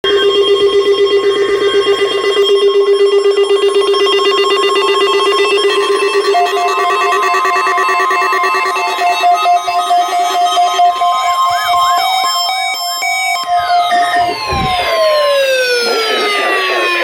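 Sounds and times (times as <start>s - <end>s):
higher pulsing tone: 0.0s - 17.0s
pulsing ringing tone: 0.0s - 17.0s.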